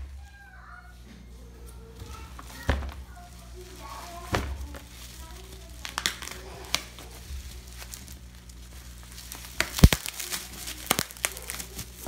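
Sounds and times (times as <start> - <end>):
bubble wrap crinkling and snapping: 0.0 - 12.0
scissors cutting bubble wrap: 1.6 - 12.0.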